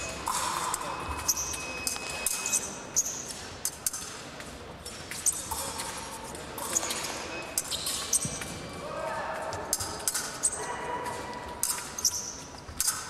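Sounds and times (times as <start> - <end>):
fencing blades clashing: 0.0 - 13.0.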